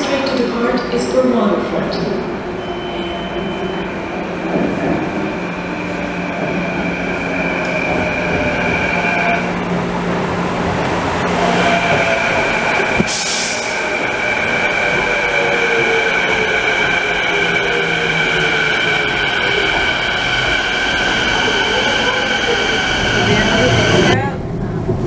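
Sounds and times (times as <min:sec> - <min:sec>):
electric train whine: 0:02.2 - 0:24.2.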